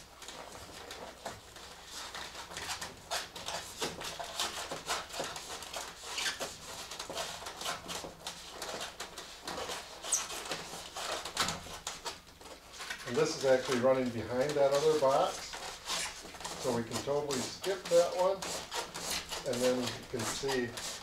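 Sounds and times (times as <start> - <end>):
cable rustling and scraping: 0.0 - 21.0.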